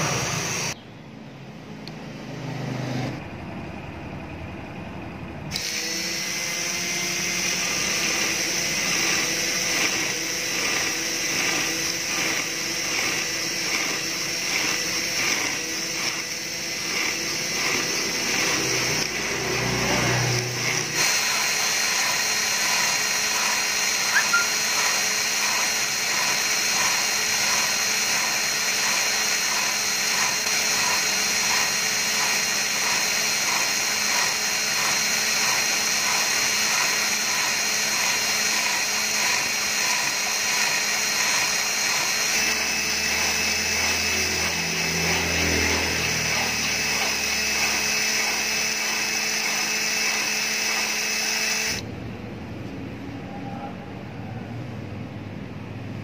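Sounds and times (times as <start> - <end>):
electric drill running: 0.0 - 0.8, 5.5 - 51.9.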